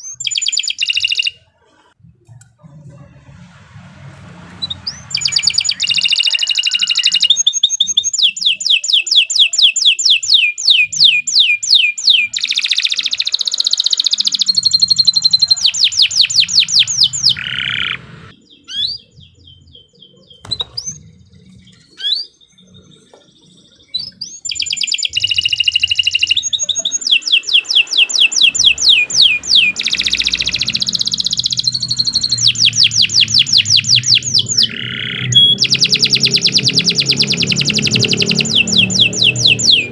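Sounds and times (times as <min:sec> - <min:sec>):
canary singing trills: 0:00.0 - 0:01.9, 0:04.5 - 0:39.9.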